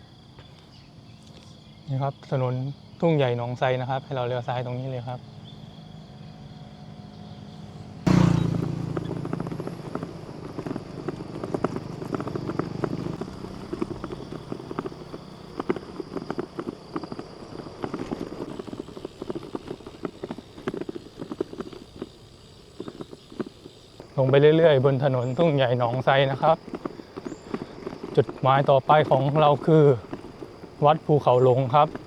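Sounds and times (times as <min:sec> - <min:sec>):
bicycle rattling over road: 0:04.8 - 0:32.0.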